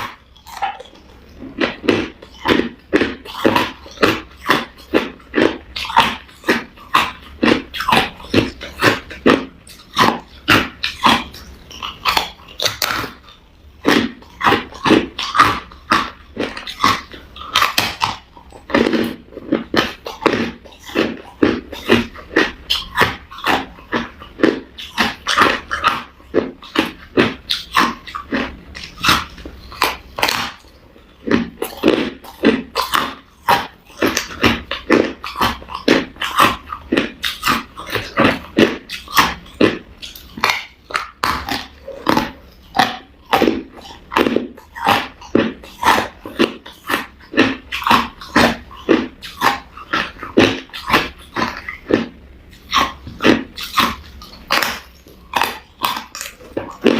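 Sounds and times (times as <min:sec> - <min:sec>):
ice crunching while chewed: 0:00.0 - 0:56.9.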